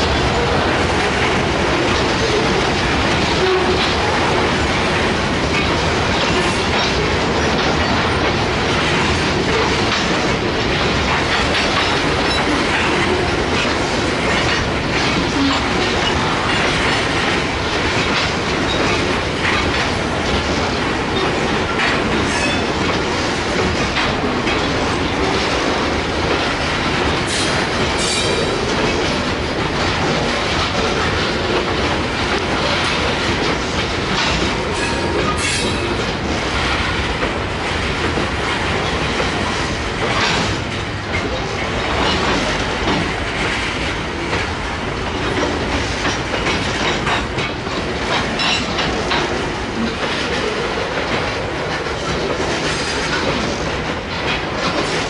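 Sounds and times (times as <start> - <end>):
freight train wheels clicking: 0.0 - 55.0.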